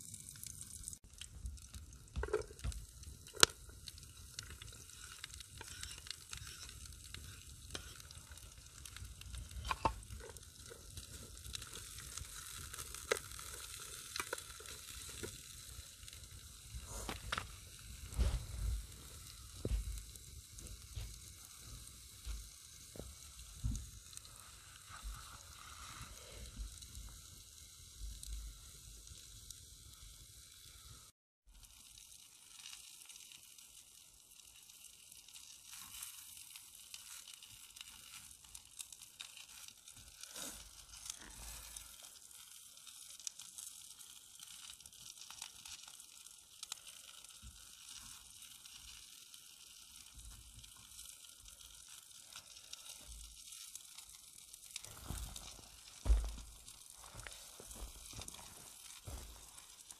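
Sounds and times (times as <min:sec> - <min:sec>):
onions and sausages sizzling: 0:00.0 - 0:59.9.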